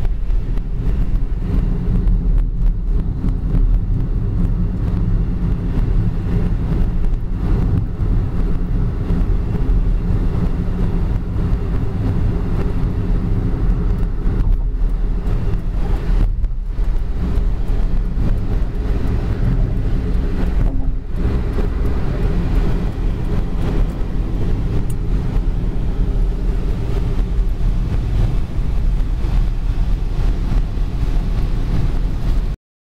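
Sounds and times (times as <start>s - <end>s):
car driving on wet road: 0.0s - 32.6s.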